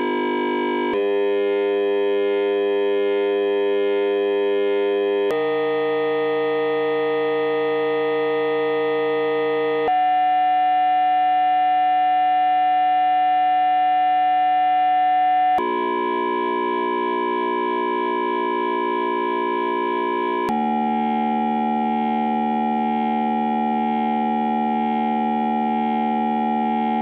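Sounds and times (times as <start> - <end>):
steady electronic oscillator tones: 0.0 - 10.4, 15.6 - 27.0.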